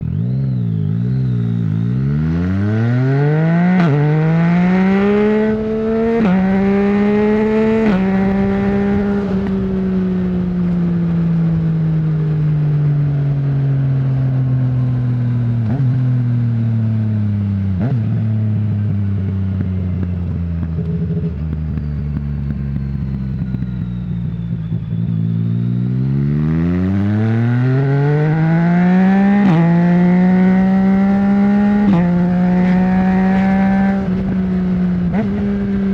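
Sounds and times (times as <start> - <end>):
motorcycle decelerating with throttle blips: 0.0 - 35.9
motorcycle engine accelerating: 0.0 - 35.9.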